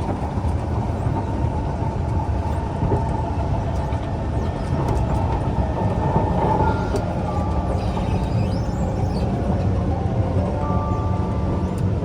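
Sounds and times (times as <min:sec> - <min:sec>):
metro train rumbling: 0:00.0 - 0:12.0.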